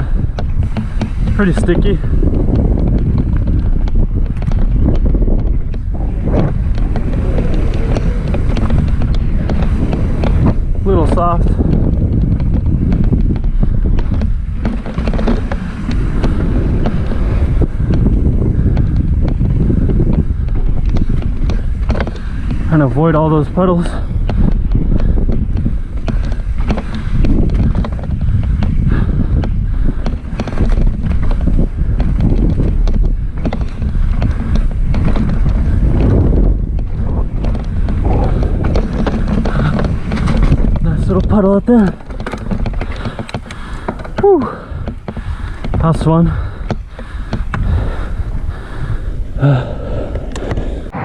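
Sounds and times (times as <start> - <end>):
bike rattling over trail: 0.0 - 51.0
wind buffeting microphone: 0.0 - 51.0.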